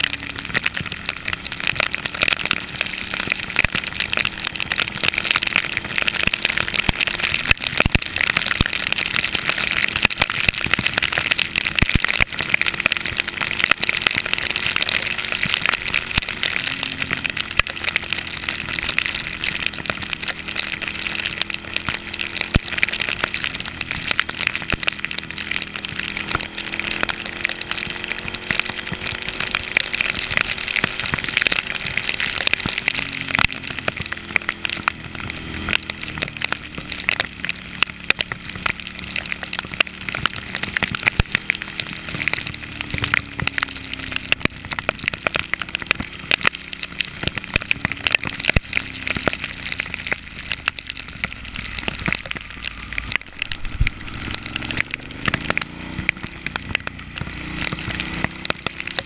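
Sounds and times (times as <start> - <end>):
heavy rain striking camera: 0.0 - 59.0
motorcycle engine running: 0.0 - 59.0.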